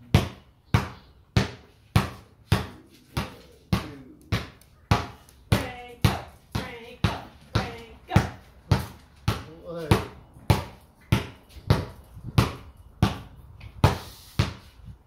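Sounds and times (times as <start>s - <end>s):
basketball bouncing on concrete: 0.0s - 14.7s.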